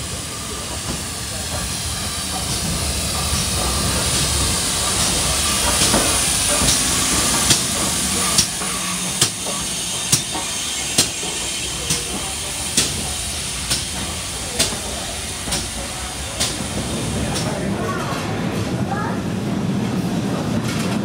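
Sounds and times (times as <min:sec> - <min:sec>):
steam hissing: 0:00.0 - 0:17.9
train wheels clicking on rails: 0:00.0 - 0:19.2.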